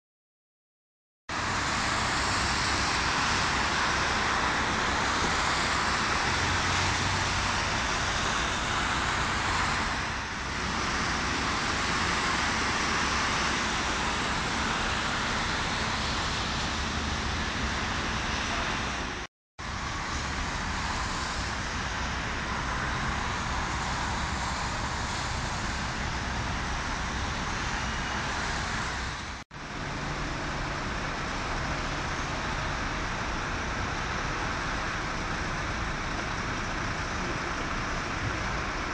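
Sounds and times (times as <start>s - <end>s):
slow traffic noise: 1.3s - 38.9s.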